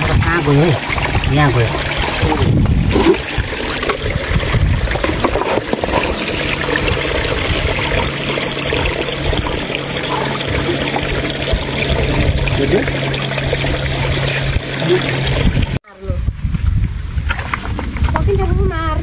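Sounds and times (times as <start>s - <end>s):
stream trickling over rocks: 0.0s - 15.8s.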